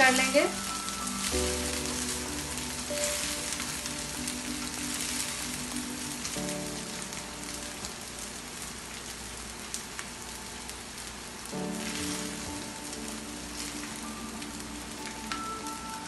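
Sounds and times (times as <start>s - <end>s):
rice sizzling in pan: 0.0s - 16.0s.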